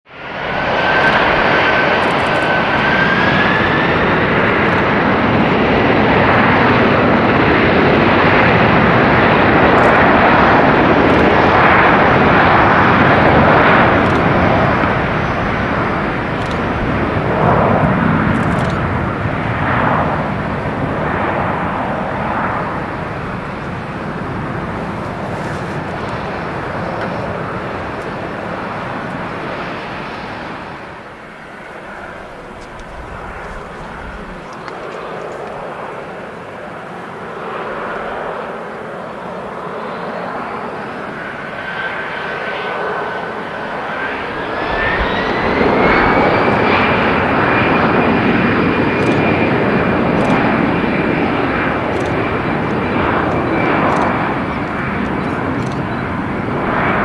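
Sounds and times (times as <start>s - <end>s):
jet engines whining: 0.1s - 57.0s.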